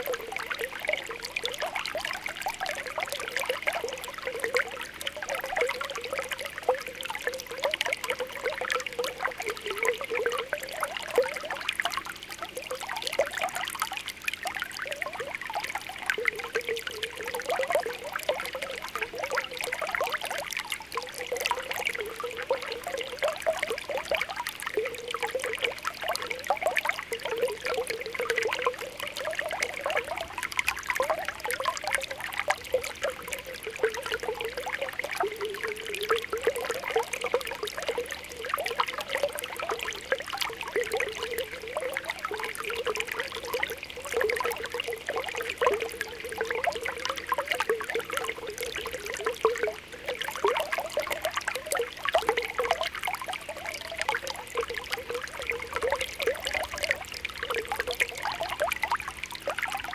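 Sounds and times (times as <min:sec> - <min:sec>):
spring water bubbling: 0:00.0 - 0:59.9
water trickling: 0:00.0 - 0:59.9.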